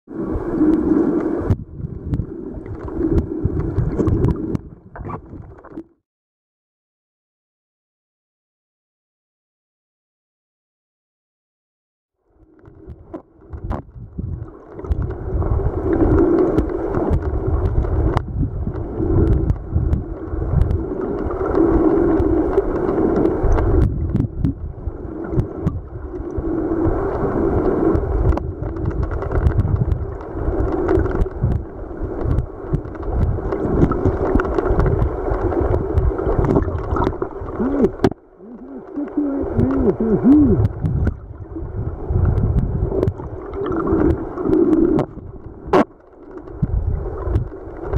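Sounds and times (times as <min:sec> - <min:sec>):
gurgling bubbles: 0:00.1 - 0:05.9, 0:12.7 - 0:47.9
muffled underwater creek rush: 0:00.1 - 0:05.9, 0:12.2 - 0:47.9.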